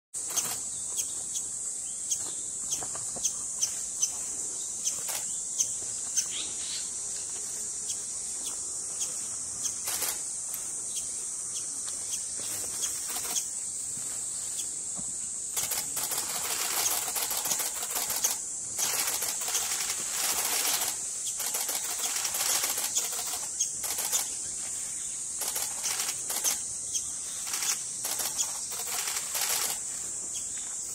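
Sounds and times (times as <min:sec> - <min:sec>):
high-pitched insect drone: 0:00.2 - 0:30.9.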